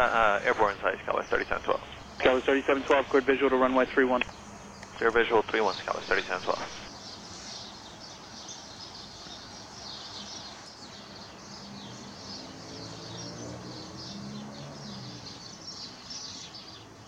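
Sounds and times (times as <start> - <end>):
distant aircraft engines humming: 0.0 - 16.2
small birds chirping: 0.0 - 17.0.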